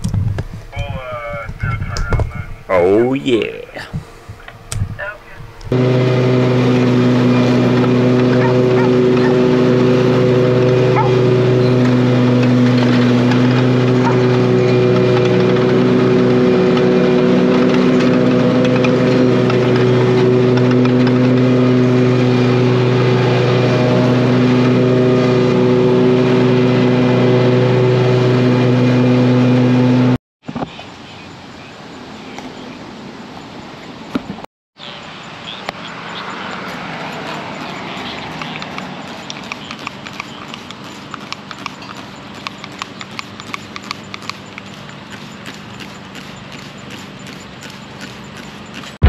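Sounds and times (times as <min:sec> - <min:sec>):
mower engine running: 0:04.1 - 0:30.2, 0:35.5 - 0:49.0.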